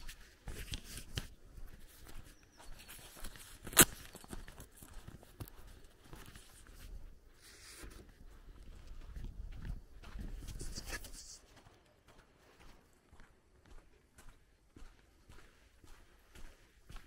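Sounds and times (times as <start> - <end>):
footsteps on dirt: 0.0 - 17.0.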